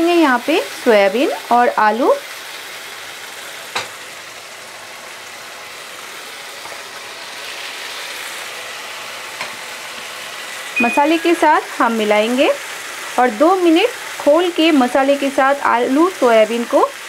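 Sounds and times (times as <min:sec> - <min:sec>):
masala sizzling in hot oil: 0:00.0 - 0:17.0.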